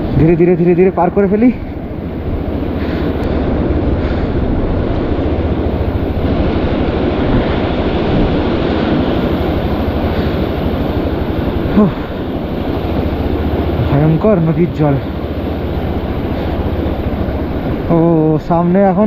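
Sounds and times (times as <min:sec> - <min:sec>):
motorcycle engine at low speed: 0:00.0 - 0:19.0
rushing river: 0:00.0 - 0:19.0
wind on microphone: 0:01.6 - 0:19.0.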